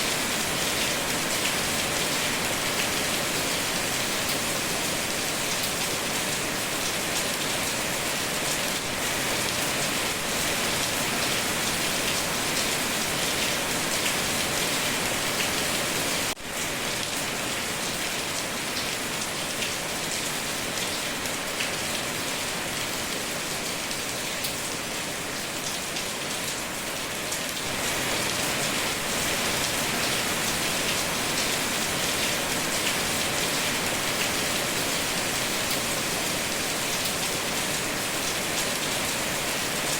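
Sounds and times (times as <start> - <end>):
dense rain pattering: 0.0 - 39.9.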